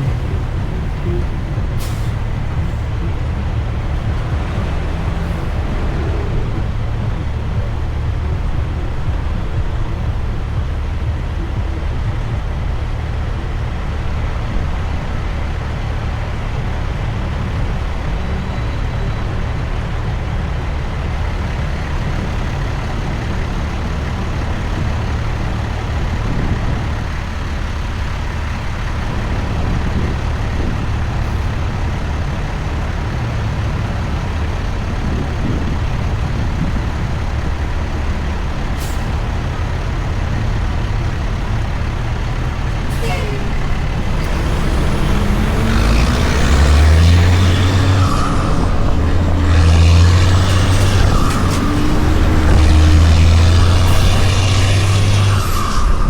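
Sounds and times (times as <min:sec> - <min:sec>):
truck diesel engine rumbling: 0:00.0 - 0:56.0.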